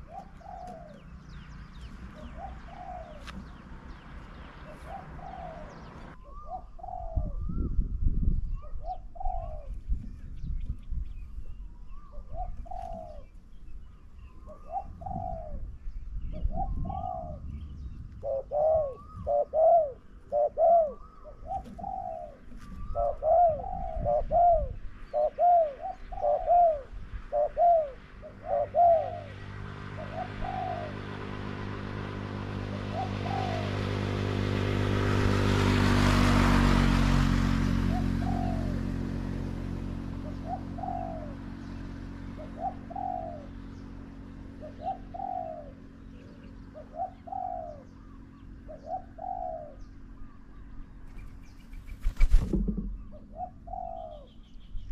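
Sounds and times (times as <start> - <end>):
dove cooing: 0.0 - 3.7, 4.5 - 7.7, 8.6 - 10.0, 11.9 - 13.4, 14.3 - 17.6, 18.2 - 34.5, 37.6 - 50.6, 52.1 - 54.5
vehicle passing: 0.0 - 7.7, 11.3 - 54.9.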